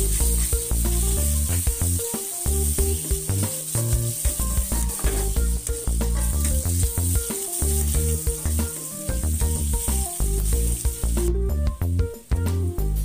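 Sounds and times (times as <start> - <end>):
food sizzling in oil in a wok: 0.0 - 13.0
music with strong bass line: 0.0 - 13.0.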